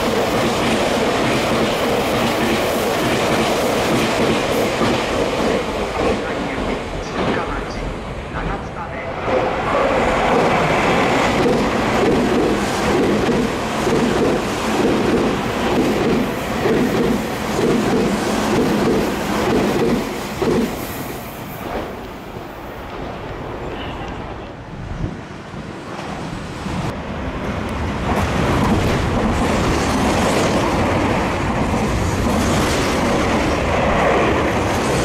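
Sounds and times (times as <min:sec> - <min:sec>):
train passing at speed: 0:00.0 - 0:35.0.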